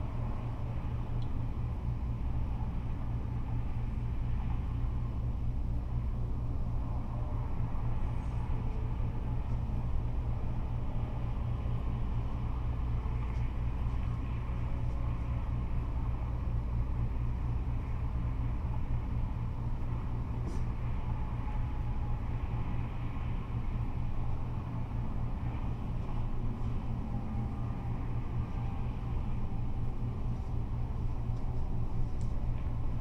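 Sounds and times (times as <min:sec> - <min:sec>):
freeway traffic rumble: 0:00.0 - 0:33.0.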